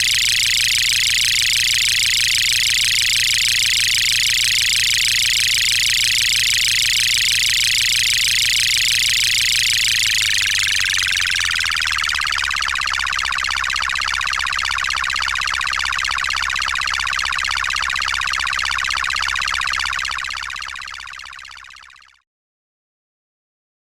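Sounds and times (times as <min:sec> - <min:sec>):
electronic siren sweep: 0:00.0 - 0:21.5.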